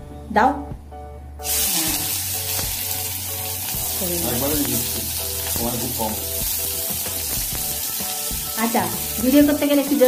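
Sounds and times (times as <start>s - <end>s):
hot oil sizzling in a wok: 1.4s - 10.0s.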